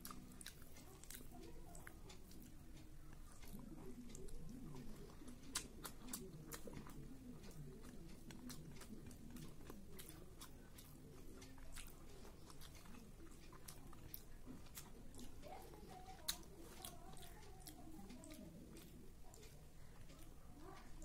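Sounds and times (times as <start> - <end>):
soft chewing: 0.0 - 21.0
wet clicks of eating by hand: 0.0 - 21.0.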